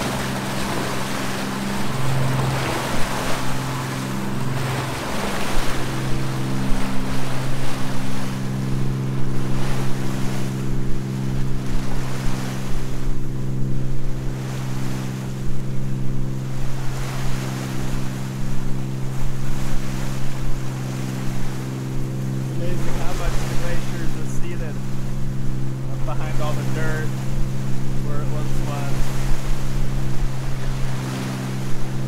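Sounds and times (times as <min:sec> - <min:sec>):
boat diesel engine droning: 0:00.0 - 0:32.0
bow wave rushing along hull: 0:00.0 - 0:32.0.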